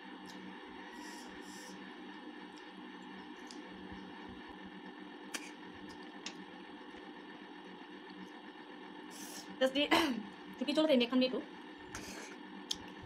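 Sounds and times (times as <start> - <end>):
room tone hum and hiss: 0.0 - 13.0.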